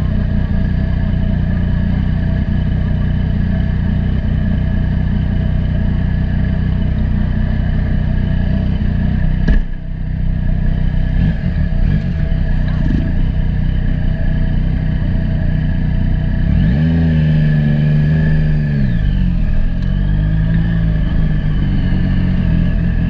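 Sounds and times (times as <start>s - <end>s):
motorcycle engine pulling steadily: 0.0s - 23.0s.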